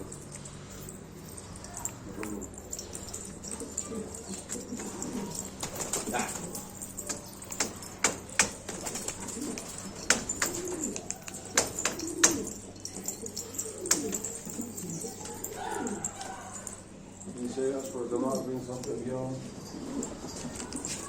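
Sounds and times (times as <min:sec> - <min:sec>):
pigeons cooing: 0:00.0 - 0:18.3, 0:19.4 - 0:21.0.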